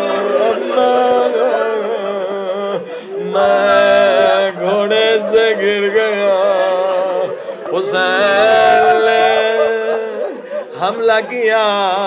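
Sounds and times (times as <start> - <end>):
man singing a mournful lament: 0.0 - 12.0.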